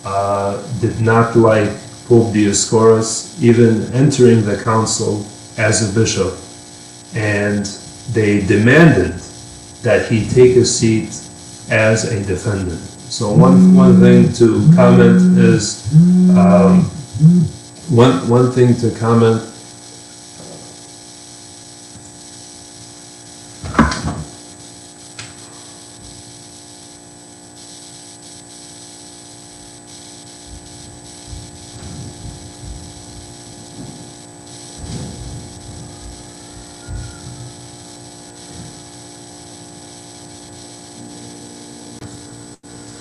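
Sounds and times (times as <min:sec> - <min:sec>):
electrical hum: 0:00.0 - 0:43.0.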